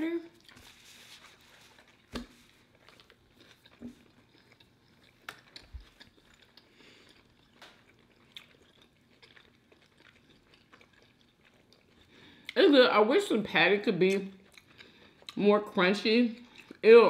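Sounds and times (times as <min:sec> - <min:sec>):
person chewing food: 0:00.2 - 0:12.6, 0:14.1 - 0:16.8.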